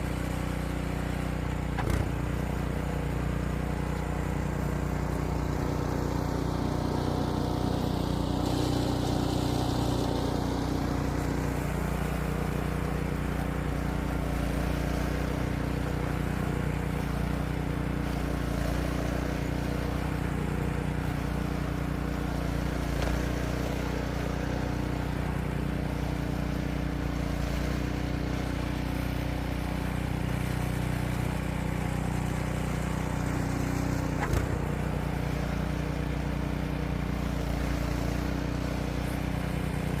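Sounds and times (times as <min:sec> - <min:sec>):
engine running steadily: 0:00.0 - 0:40.0.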